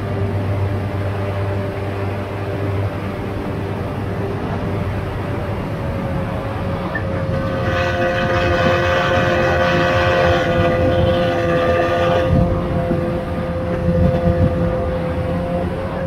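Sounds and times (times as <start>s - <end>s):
outboard motor high whine: 0.0s - 16.0s
rushing wind: 0.0s - 16.0s.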